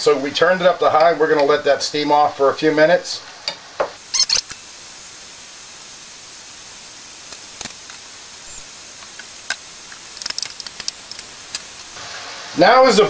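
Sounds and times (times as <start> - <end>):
vegetables sizzling in a pan: 2.0 - 13.0.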